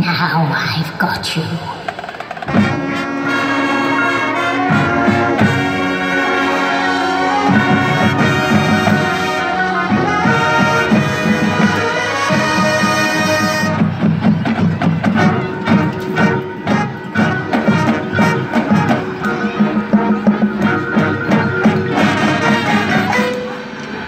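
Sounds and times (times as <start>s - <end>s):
marching band brass chords: 1.8s - 24.0s.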